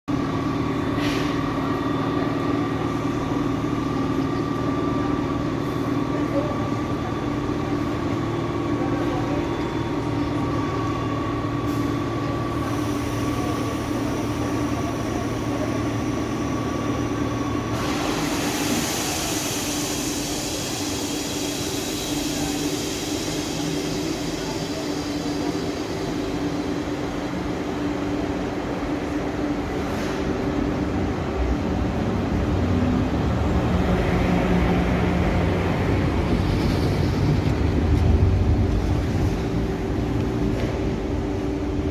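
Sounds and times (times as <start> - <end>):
electric locomotive humming: 0.1 - 41.9.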